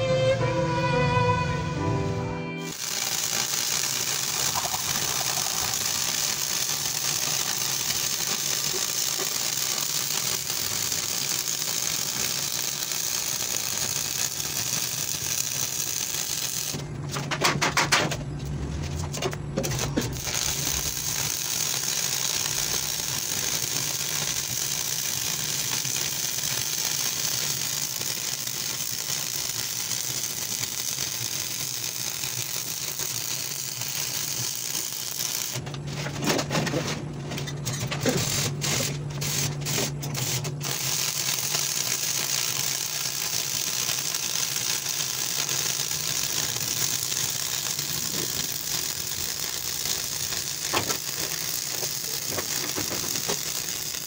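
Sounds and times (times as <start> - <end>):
welding arc crackling and hissing: 2.6 - 17.2, 19.6 - 35.6, 37.6 - 54.0.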